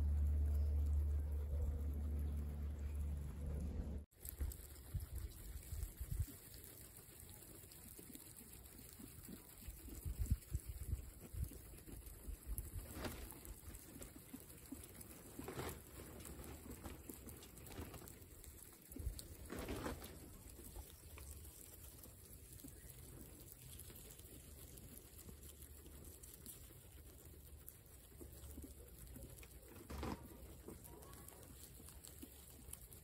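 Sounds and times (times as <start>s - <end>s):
guinea pigs nibbling: 0.0s - 33.0s
rustling of dry straw: 4.2s - 33.0s.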